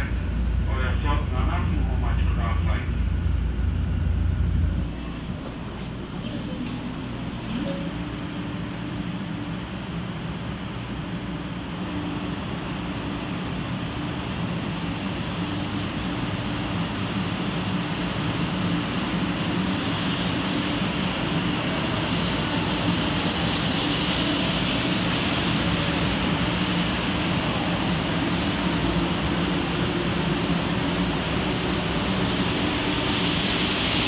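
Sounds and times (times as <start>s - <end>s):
rushing noise of train cars: 0.0s - 34.0s
train low hum: 0.0s - 34.0s.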